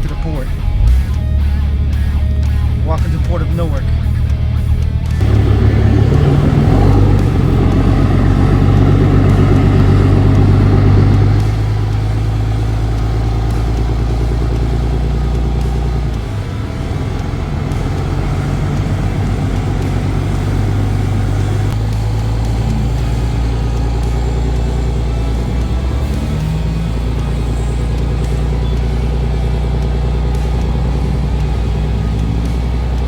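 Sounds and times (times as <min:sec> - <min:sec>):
vehicle engine drone: 0:00.0 - 0:33.0.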